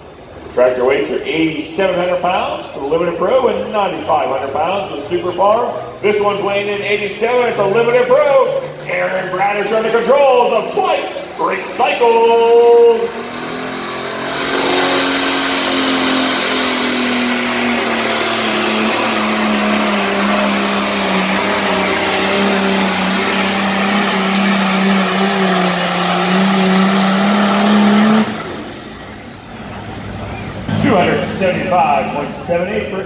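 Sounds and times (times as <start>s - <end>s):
tractor engine running flat out: 4.6s - 33.0s.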